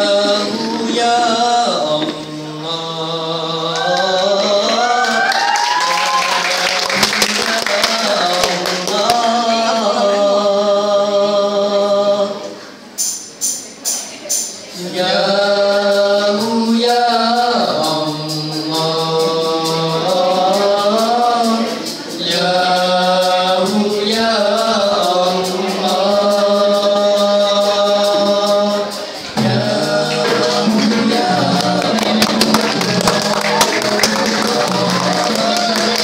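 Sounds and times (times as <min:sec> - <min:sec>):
male vocal group singing in harmony: 0:00.0 - 0:12.8, 0:14.7 - 0:36.0.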